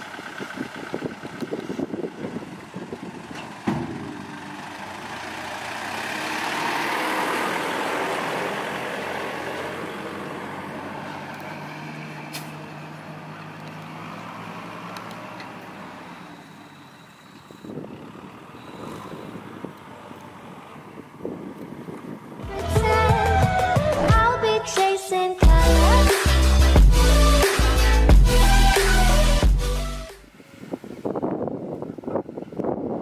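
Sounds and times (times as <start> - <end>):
truck passing by: 0.0 - 24.6, 25.4 - 33.0.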